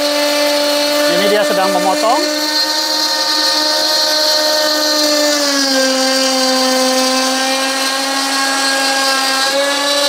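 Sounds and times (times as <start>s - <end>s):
wood router whining: 0.0s - 10.0s.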